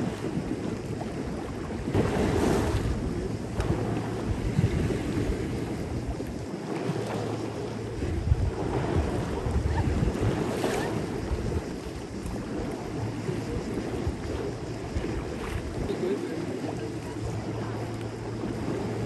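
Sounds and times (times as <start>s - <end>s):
waves washing on shore: 0.0s - 19.0s
wind rumbling on microphone: 0.0s - 19.0s.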